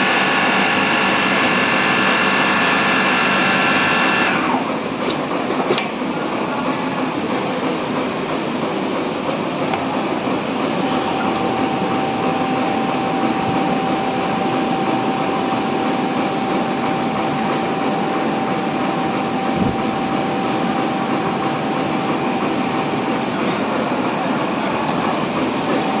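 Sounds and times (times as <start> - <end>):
high machine whine: 0.0 - 26.0.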